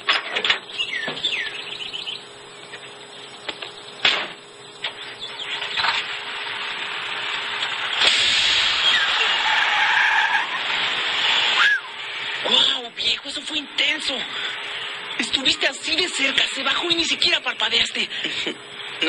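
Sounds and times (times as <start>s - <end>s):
birds chirping: 0.0s - 8.1s, 11.2s - 19.0s.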